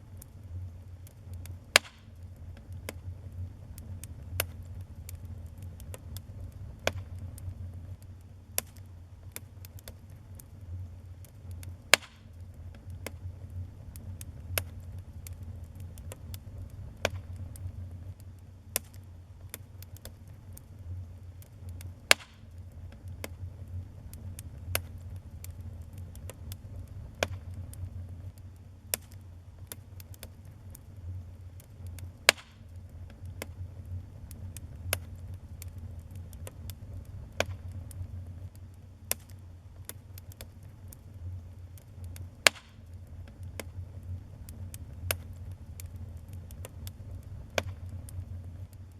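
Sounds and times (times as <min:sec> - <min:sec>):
steady low rumble: 0:00.0 - 0:48.9
wood fire crackling and popping: 0:00.0 - 0:48.9.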